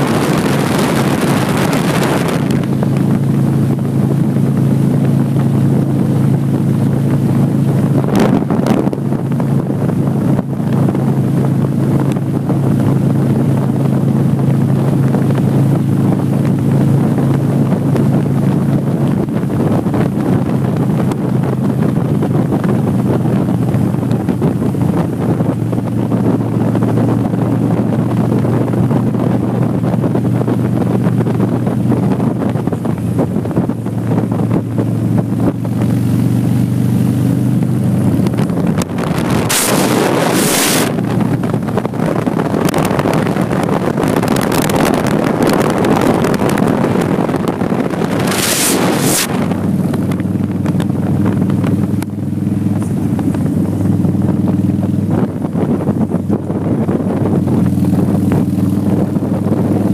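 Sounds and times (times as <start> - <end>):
motorcycle engine humming: 0.0 - 59.9
wind buffeting microphone: 0.0 - 59.9.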